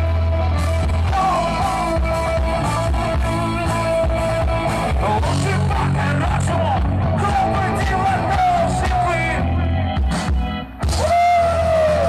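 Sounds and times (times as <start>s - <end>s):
person singing: 0.0s - 10.0s
live rock band playing: 0.0s - 12.0s
steady drumbeat: 0.6s - 12.0s.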